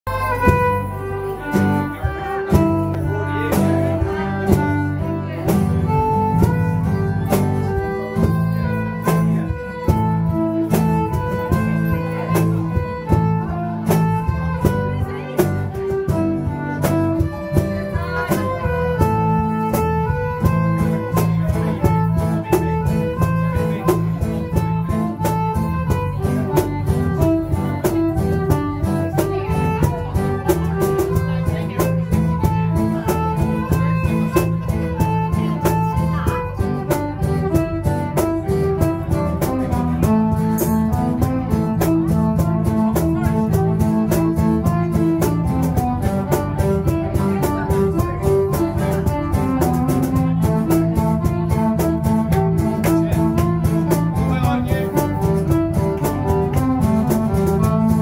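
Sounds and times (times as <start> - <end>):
fiddle melody: 0.0 - 58.0
folk-rock band playing: 0.0 - 58.0.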